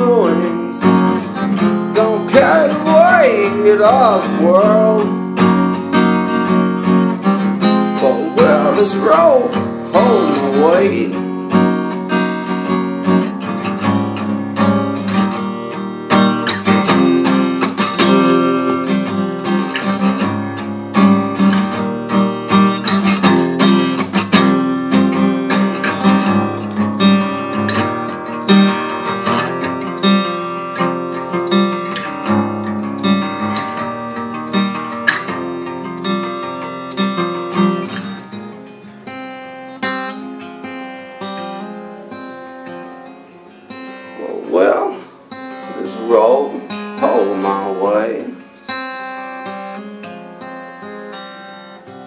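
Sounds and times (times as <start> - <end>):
acoustic guitar strummed: 0.0 - 52.0.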